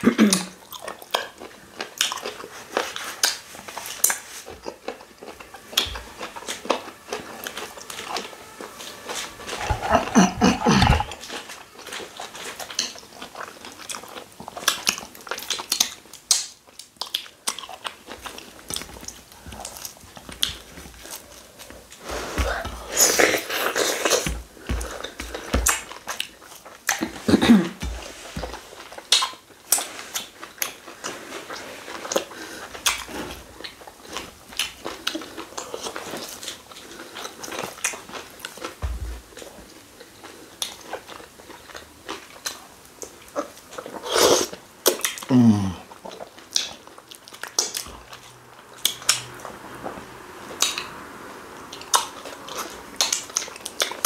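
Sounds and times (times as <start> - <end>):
wet chewing: 0.0 - 27.4, 28.0 - 54.0.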